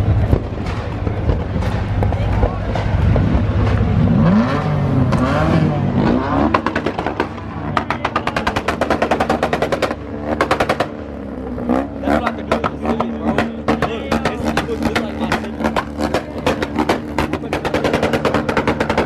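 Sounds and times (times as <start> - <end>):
car engine revving: 0.0 - 19.0
exhaust pops rattling: 0.0 - 19.0.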